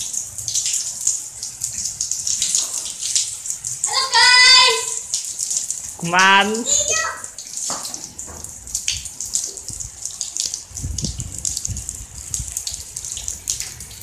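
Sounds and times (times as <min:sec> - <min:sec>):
rain on concrete: 0:00.0 - 0:14.0.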